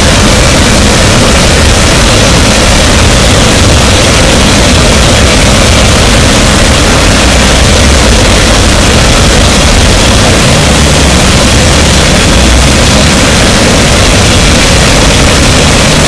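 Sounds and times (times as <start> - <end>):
dense distorted static: 0.0 - 16.0
heavy low rumble: 0.0 - 16.0.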